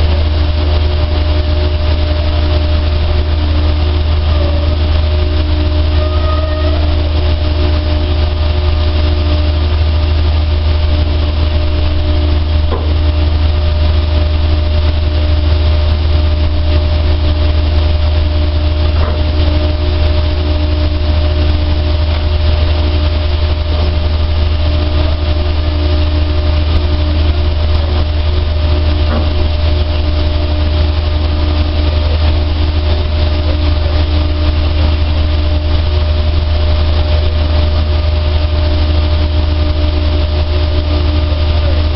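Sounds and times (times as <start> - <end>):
dryer machine humming: 0.0 - 41.9.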